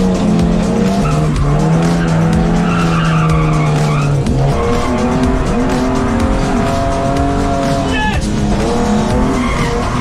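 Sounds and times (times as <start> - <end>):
car engine at high revs: 0.0 - 10.0
tyres skidding: 0.0 - 10.0.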